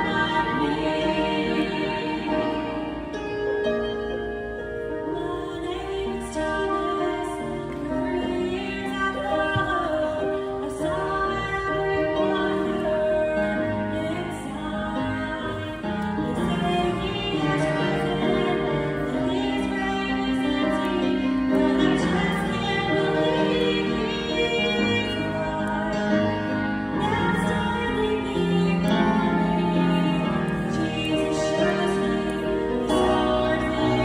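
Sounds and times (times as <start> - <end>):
woman singing gospel into microphone: 0.0 - 3.0, 5.1 - 34.0
instrumental accompaniment: 0.0 - 34.0.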